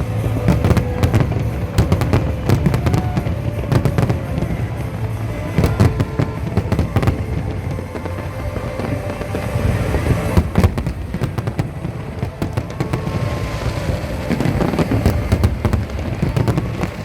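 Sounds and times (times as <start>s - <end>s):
fireworks bangs and crackling: 0.0s - 17.0s
music: 0.0s - 17.0s.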